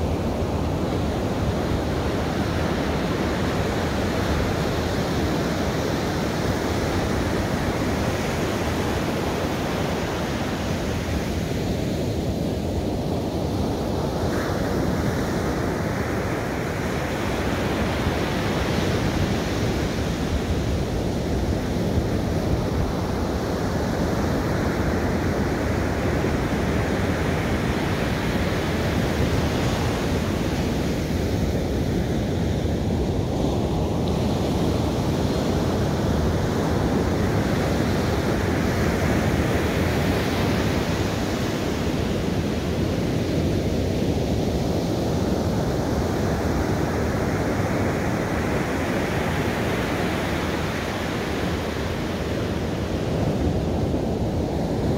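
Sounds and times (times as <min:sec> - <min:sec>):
ocean surf breaking on sand: 0:00.0 - 0:54.9.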